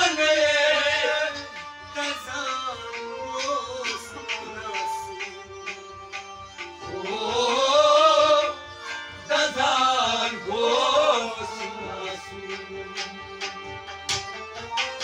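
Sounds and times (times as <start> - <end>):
harmonium chords: 0.0 - 15.0.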